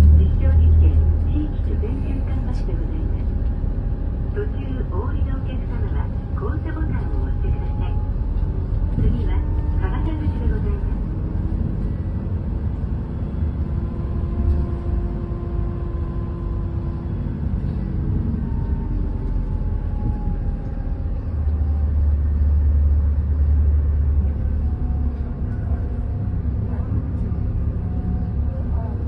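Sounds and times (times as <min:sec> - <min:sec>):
bus engine and road rumble: 0:00.0 - 0:29.0
faint whining tones: 0:00.0 - 0:29.0.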